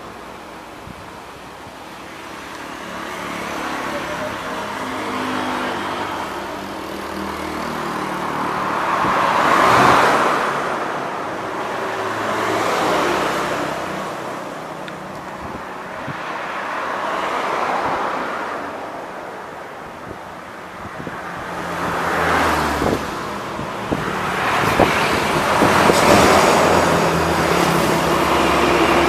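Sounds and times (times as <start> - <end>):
vehicles passing on road: 0.0 - 29.0.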